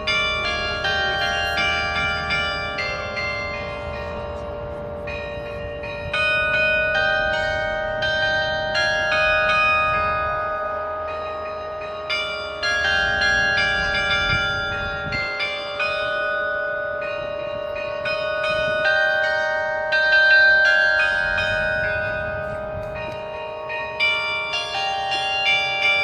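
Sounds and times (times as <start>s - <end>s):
carillon bells playing a tune: 0.0s - 26.0s.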